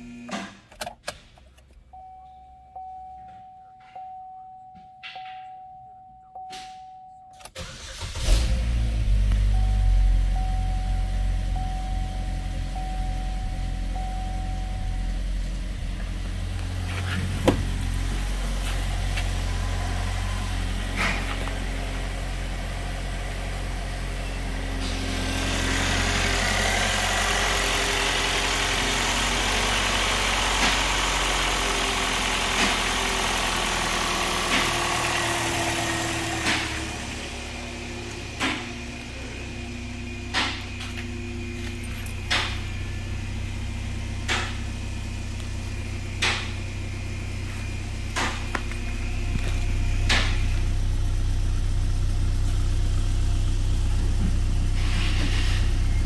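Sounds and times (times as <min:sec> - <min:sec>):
car engine idling: 0:07.1 - 0:56.0.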